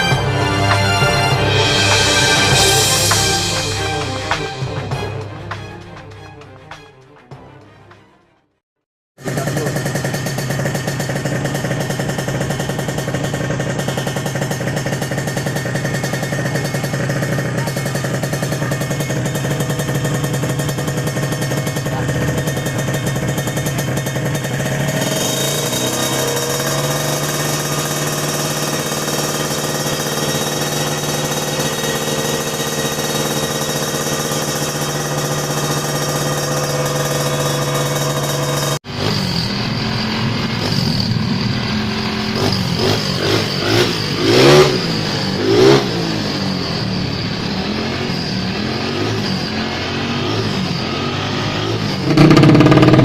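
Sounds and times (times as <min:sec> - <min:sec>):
motorcycle engine idling and revving: 0:09.2 - 0:53.0.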